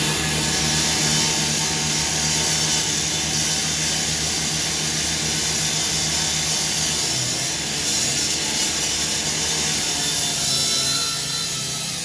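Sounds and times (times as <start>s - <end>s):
power saw cutting metal: 0.0s - 12.0s.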